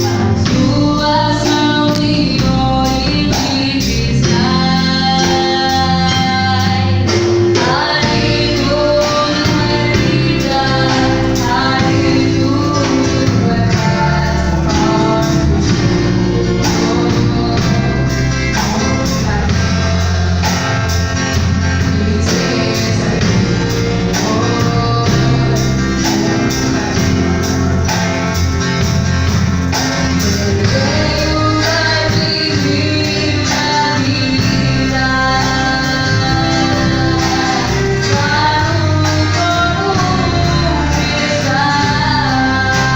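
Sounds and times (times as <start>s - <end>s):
band with bass and beat: 0.0s - 42.9s
voices singing gospel: 0.0s - 42.9s.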